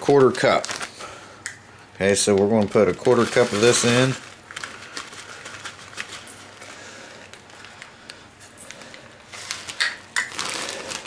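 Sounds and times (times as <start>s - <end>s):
plastic bag crinkling: 0.0s - 1.2s, 2.0s - 11.0s.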